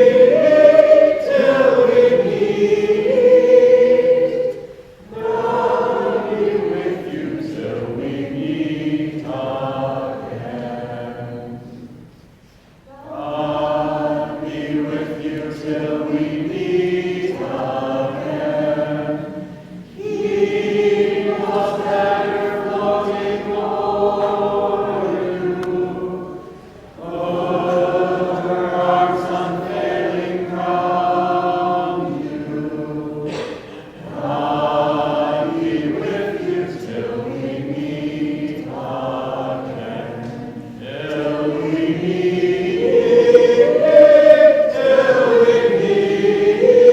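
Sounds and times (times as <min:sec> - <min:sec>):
choir singing: 0:00.0 - 0:46.9.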